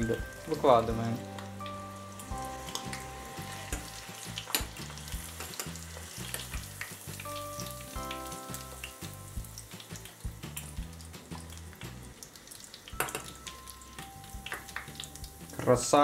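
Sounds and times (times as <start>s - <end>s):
oil sizzling with pops: 0.0s - 16.0s.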